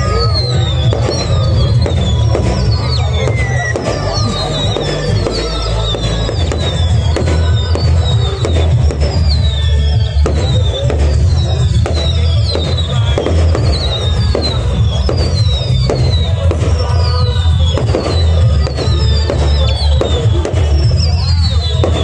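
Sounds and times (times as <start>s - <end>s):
fireworks cracking and banging: 0.0s - 22.0s
music playing: 0.0s - 22.0s.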